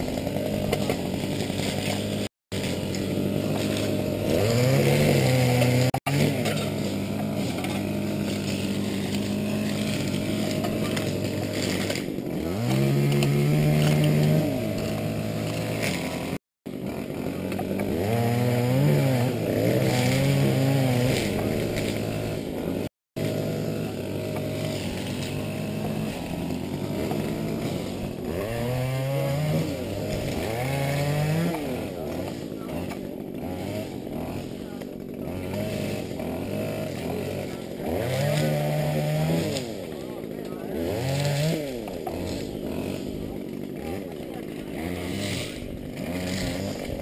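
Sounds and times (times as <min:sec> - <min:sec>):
small engine idling and revving: 0:00.0 - 0:47.0.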